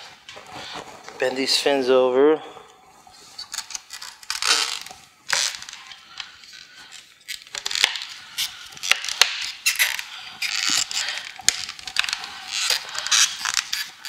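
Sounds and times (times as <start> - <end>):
plastic creaking and crackling: 2.6 - 14.0.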